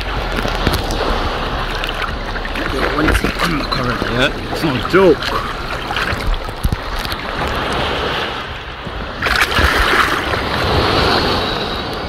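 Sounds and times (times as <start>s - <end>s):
small waves splashing: 0.0s - 12.0s
wind on microphone: 0.0s - 12.0s.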